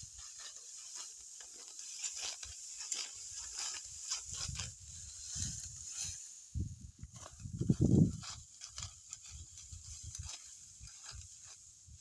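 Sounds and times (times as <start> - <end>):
sickle cutting dry stalks: 0.0 - 12.0.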